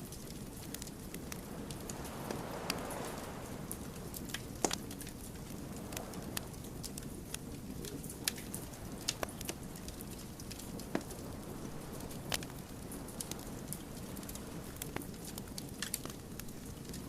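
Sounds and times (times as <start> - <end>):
burning wood crackling and popping: 0.0 - 17.0
low rush of flames: 0.0 - 17.0.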